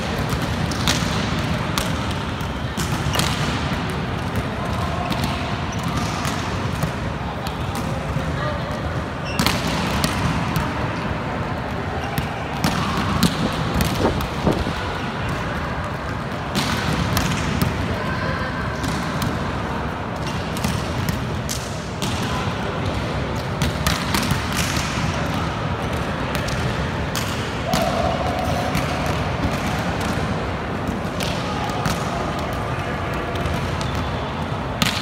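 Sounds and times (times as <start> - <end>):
volleyballs slapping and bouncing: 0.0 - 35.0.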